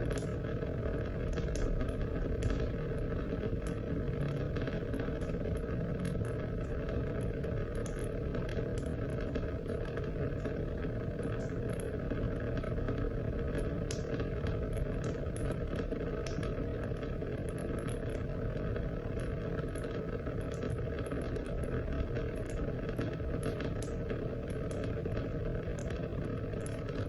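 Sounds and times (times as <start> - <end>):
raindrops ticking: 0.0 - 27.0
steady rain falling: 0.0 - 27.0.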